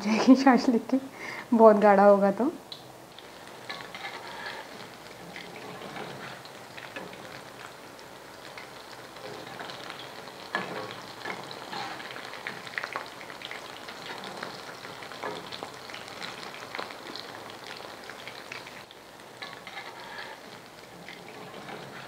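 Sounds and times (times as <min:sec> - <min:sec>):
food deep-frying in oil: 0:00.3 - 0:22.0.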